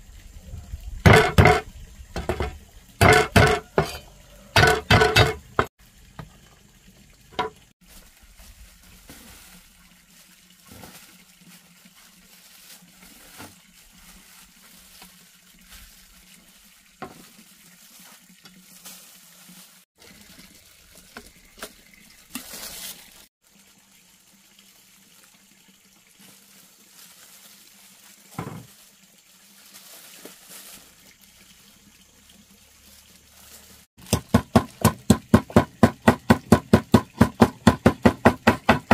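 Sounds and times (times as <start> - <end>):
faint water pouring: 0.0 - 5.0, 5.6 - 34.0.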